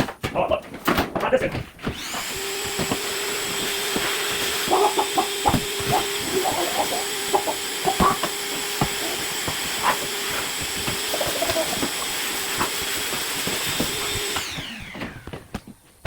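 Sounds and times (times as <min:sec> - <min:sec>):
vacuum cleaner running: 0:01.8 - 0:16.0.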